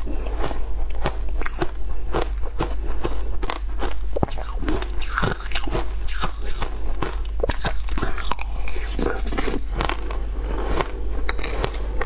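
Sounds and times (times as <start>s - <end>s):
ice crunching and chewing: 0.0s - 12.0s.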